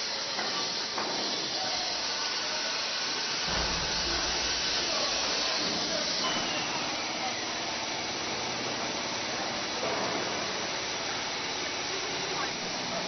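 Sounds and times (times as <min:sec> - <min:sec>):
faint voices: 0:00.1 - 0:13.0.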